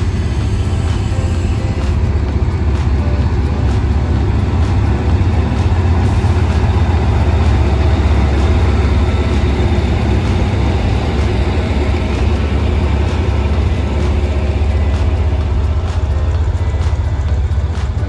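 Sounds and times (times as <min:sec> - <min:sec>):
locomotive engine rumbling: 0:00.0 - 0:18.0.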